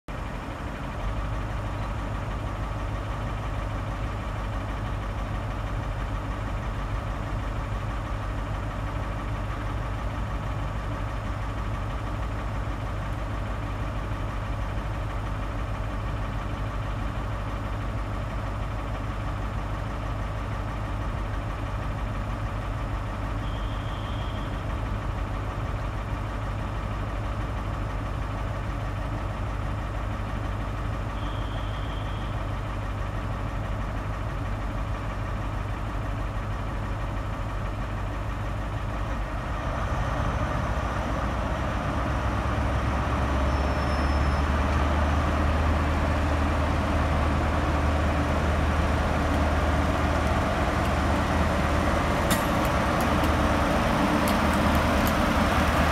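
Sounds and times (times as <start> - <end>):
train diesel engine idling: 0.1 - 55.9.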